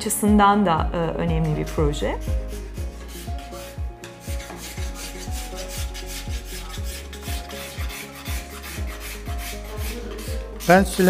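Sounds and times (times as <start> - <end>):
background music with kick drum: 0.0 - 11.0
scraper rasping on wood: 1.5 - 11.0.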